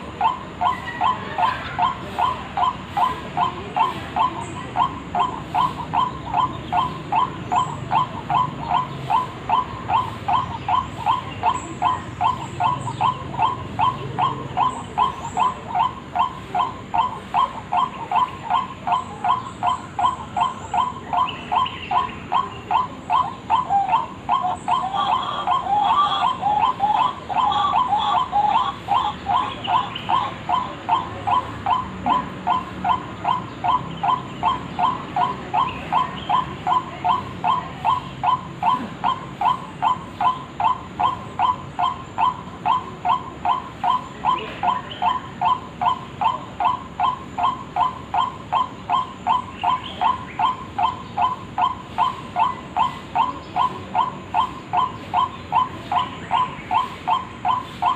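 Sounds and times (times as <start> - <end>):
waterhen call: 0.0 - 57.9.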